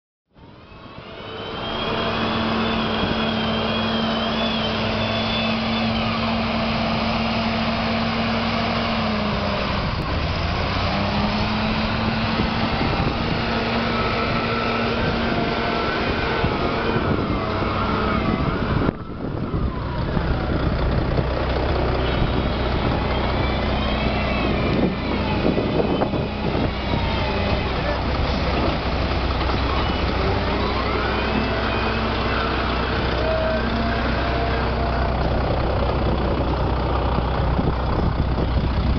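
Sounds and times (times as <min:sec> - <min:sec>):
diesel engine under load: 0:00.3 - 0:38.9
high mechanical whine: 0:00.4 - 0:38.9.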